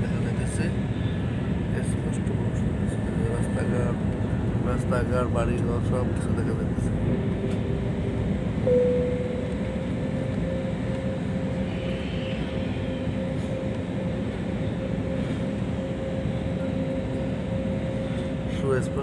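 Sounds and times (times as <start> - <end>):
airliner cabin rumble: 0.0 - 19.0
steady humming tone: 0.0 - 19.0.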